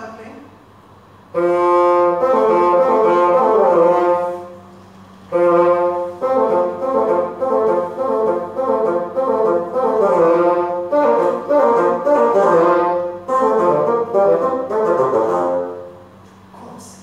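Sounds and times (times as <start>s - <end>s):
bassoons playing: 1.3s - 16.2s.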